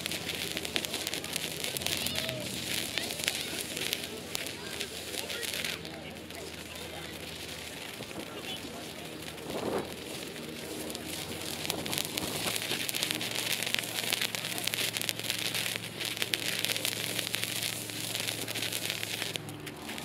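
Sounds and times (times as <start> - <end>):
firework fountain crackling: 0.0 - 20.0.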